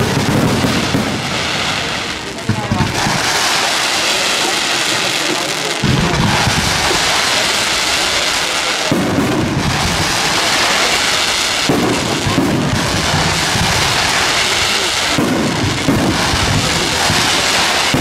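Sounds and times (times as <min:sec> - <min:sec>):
deep rumbling firework bursts: 0:00.0 - 0:18.0
fireworks hissing: 0:00.0 - 0:18.0.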